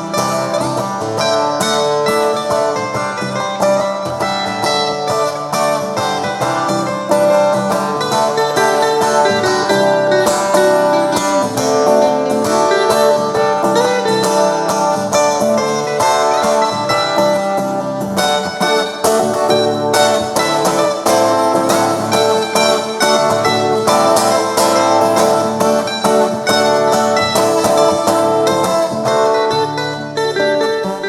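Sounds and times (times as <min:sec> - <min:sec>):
picked guitar melody: 0:00.0 - 0:31.0
strummed guitar chords: 0:00.0 - 0:31.0.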